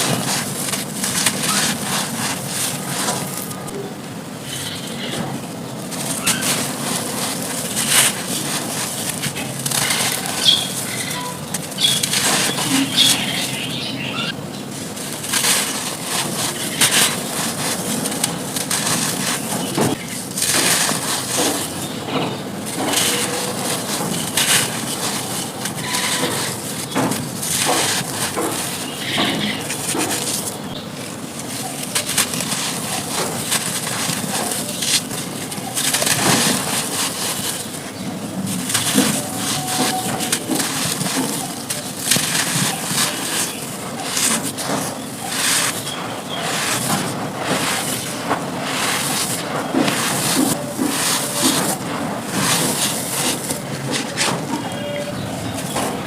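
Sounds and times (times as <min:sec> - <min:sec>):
charcoal being crushed: 0:00.0 - 0:56.0.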